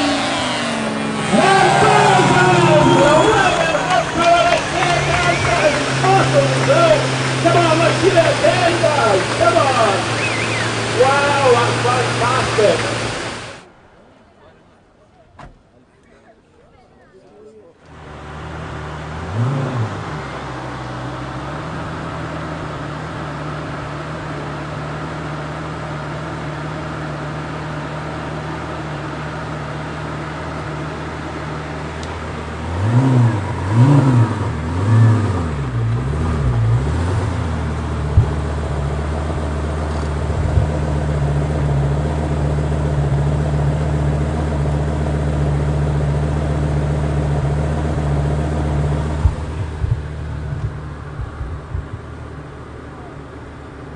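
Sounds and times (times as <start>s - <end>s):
engine revving blips: 0.0s - 13.7s, 17.8s - 27.2s, 31.4s - 53.9s
car engine idling: 0.0s - 15.9s, 17.8s - 53.9s.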